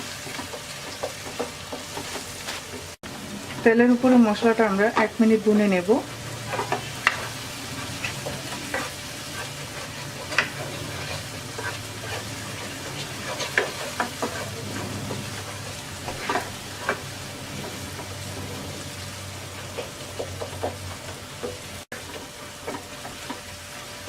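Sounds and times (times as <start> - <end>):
spoon scraping a pan: 0.0 - 2.9, 6.3 - 23.5
paste sizzling in hot oil: 0.0 - 24.0.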